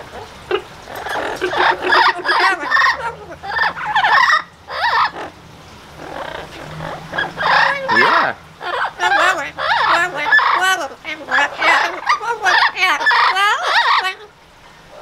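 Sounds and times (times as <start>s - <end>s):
parrots squawking: 0.0s - 14.3s.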